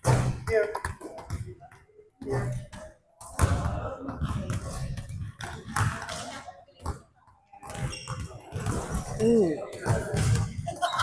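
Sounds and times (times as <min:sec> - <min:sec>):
people talking: 0:00.0 - 0:11.0.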